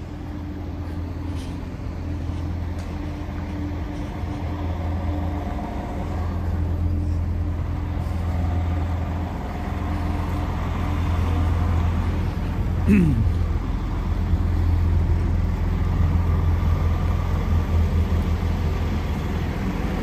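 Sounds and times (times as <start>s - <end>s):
truck engine drone: 0.0s - 20.0s.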